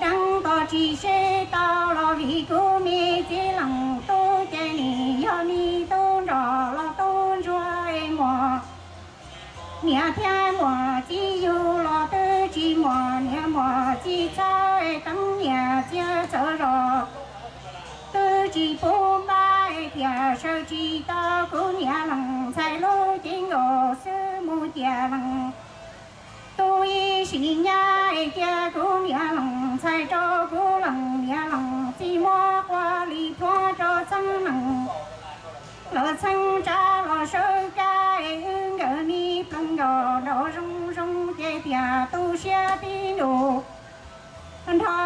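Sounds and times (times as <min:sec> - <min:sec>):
woman singing into microphone: 0:00.0 - 0:17.2, 0:18.1 - 0:25.6, 0:26.6 - 0:35.0, 0:35.9 - 0:43.8, 0:44.6 - 0:45.0
quiet backing music: 0:00.0 - 0:45.0.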